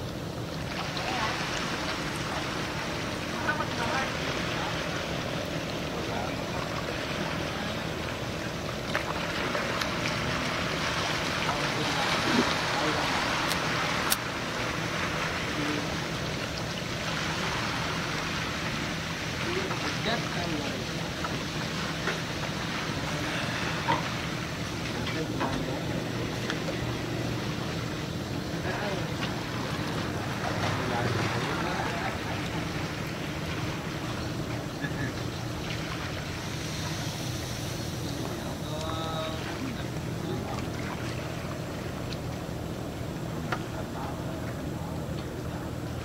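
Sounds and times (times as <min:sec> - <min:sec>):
boat engines running: 0:00.0 - 0:46.0
water rushing along hulls: 0:00.0 - 0:46.0.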